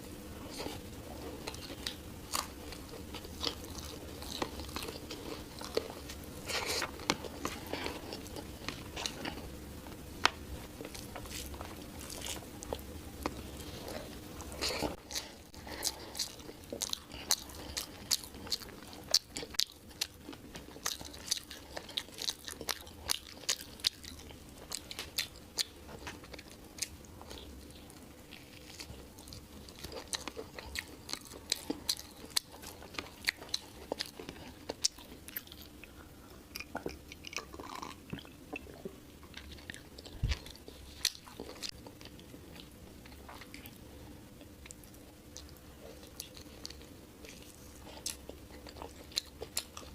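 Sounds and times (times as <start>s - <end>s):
person chewing food: 0.4s - 49.9s.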